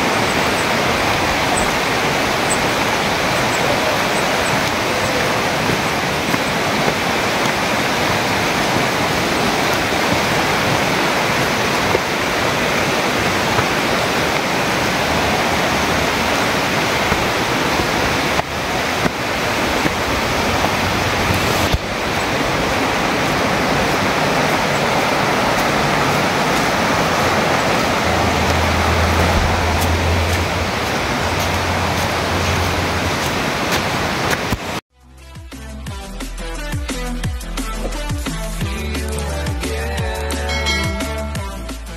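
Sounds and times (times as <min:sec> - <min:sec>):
water rushing over rocks: 0:00.0 - 0:34.8.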